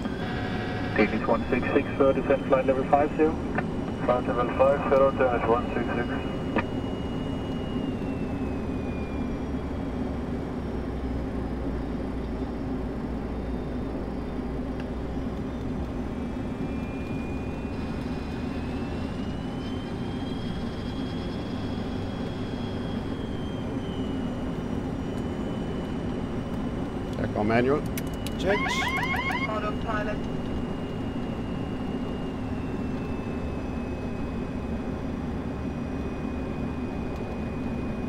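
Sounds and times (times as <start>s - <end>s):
faint high whine: 0.0s - 12.6s, 13.3s - 38.0s
jet engine noise: 0.0s - 38.0s.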